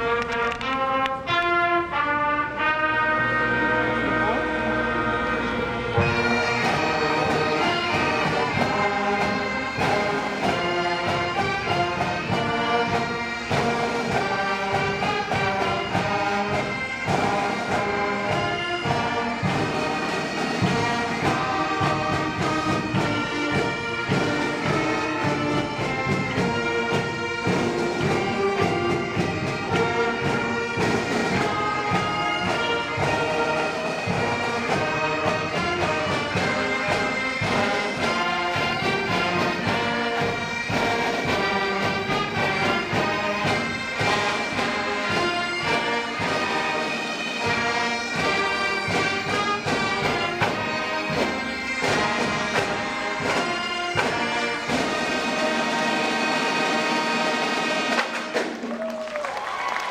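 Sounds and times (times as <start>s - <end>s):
steady drumming: 0.0s - 59.9s
wind instruments melody: 0.0s - 59.9s.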